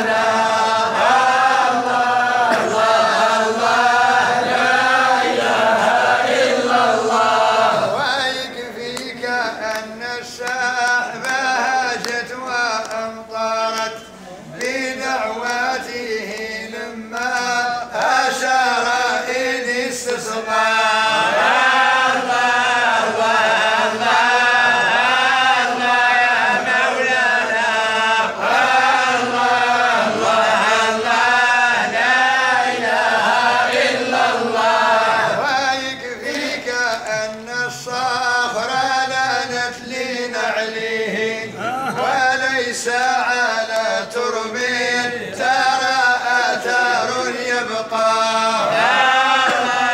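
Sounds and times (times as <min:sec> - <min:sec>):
men chanting devotional songs: 0:00.0 - 0:49.9.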